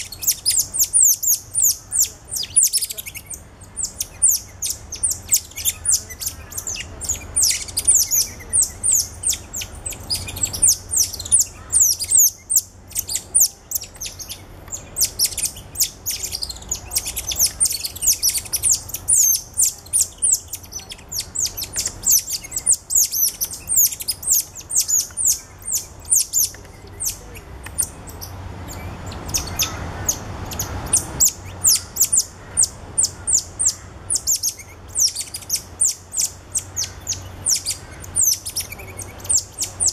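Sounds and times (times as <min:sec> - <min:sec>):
monkeys chirping: 0:00.0 - 0:39.9.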